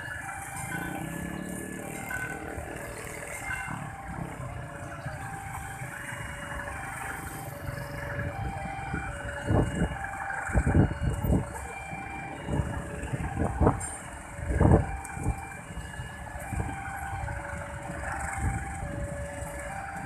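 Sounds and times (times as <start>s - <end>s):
level crossing warning tones: 0.0s - 17.4s
motorcycle engines surging: 0.0s - 20.0s
traffic rumble: 0.0s - 20.0s.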